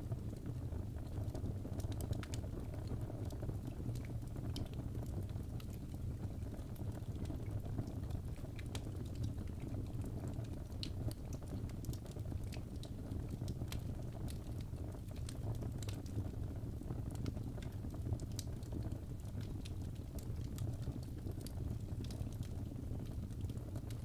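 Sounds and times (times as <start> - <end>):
fireplace crackling: 0.2 - 24.0.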